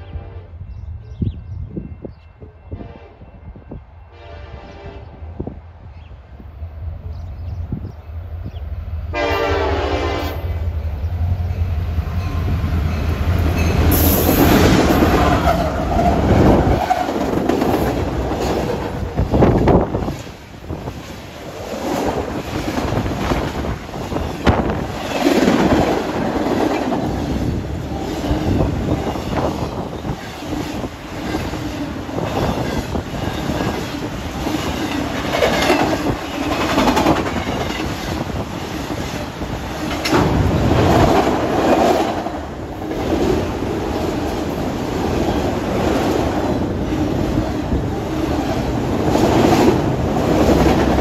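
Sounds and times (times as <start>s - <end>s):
freight train rumbling past: 0.0s - 51.0s.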